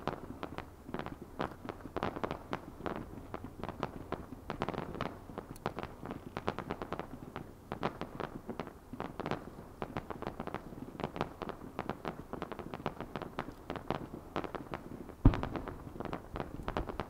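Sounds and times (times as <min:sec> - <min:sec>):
fireworks popping and cracking: 0:00.0 - 0:17.0.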